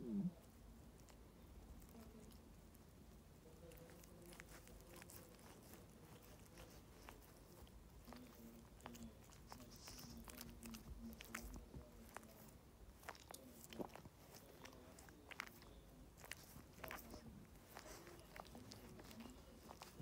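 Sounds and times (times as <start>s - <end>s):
dog licking and chewing paw: 0.4s - 20.0s.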